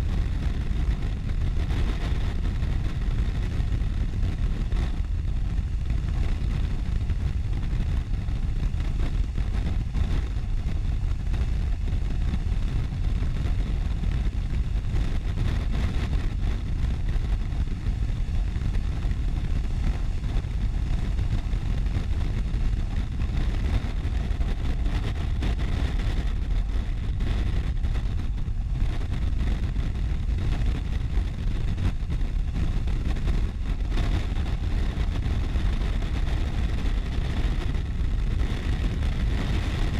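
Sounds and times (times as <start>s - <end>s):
road noise: 0.0s - 39.9s
wind rushing over microphone: 0.0s - 39.9s.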